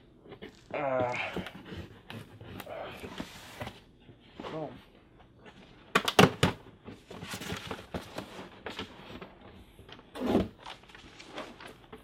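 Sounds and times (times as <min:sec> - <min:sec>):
cardboard scraping and rustling: 0:00.3 - 0:04.7, 0:06.8 - 0:12.0.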